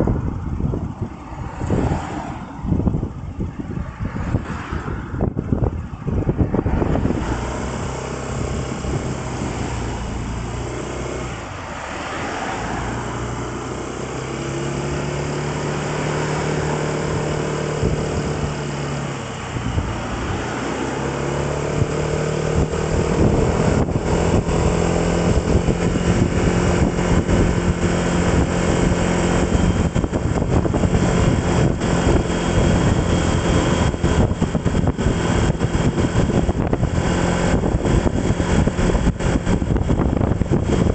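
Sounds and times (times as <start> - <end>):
vehicle engine: 0.0 - 40.9
wind rushing over microphone: 0.0 - 40.9.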